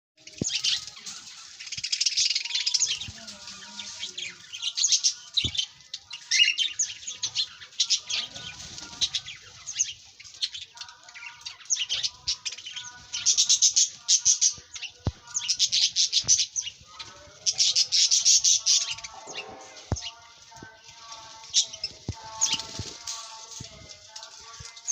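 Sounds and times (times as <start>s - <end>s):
small birds chirping: 0.2s - 24.9s.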